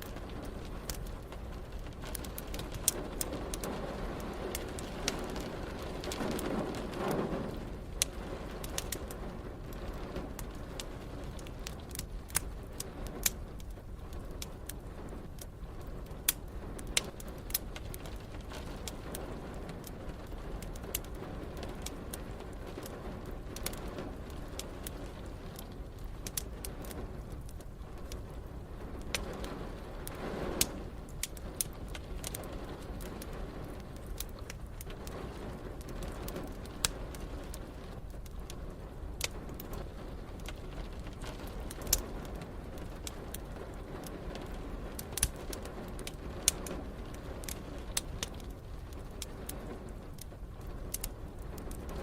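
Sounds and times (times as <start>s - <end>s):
low background rumble: 0.0s - 52.0s
wood fire crackling: 0.0s - 52.0s.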